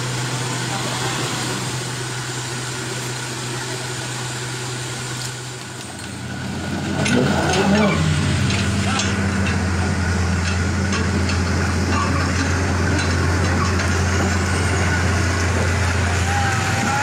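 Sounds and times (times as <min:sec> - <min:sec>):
truck churning through mud: 0:00.0 - 0:17.0
vehicle engine humming: 0:00.0 - 0:17.0.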